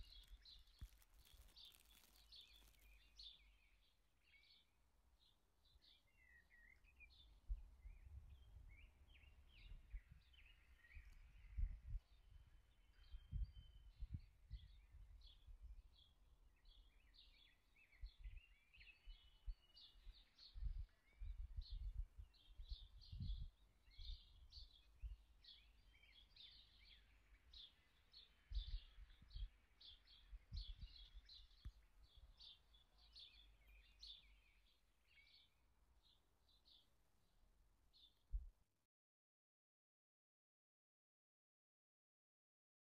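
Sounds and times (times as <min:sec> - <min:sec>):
small birds chirping: 0:00.0 - 0:38.3.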